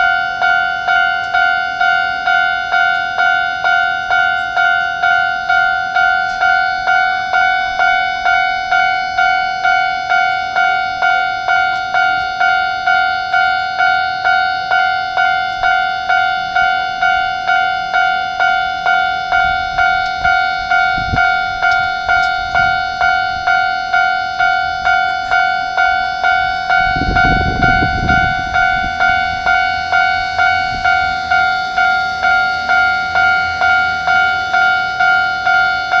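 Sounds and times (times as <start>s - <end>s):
electronic warning bell dinging: 0.0s - 36.0s.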